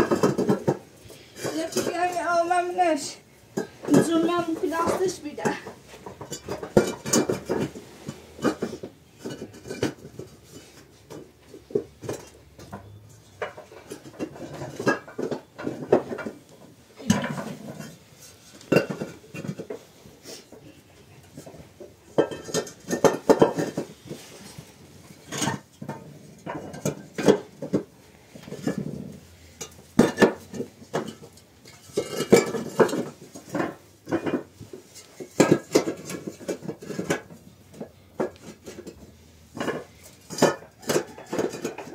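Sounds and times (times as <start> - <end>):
clay bricks clinking and knocking: 0.0 - 41.9.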